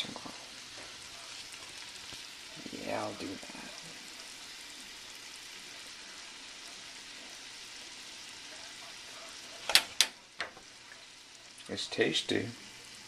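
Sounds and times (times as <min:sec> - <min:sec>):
ham sizzling in a frying pan: 0:00.0 - 0:13.0.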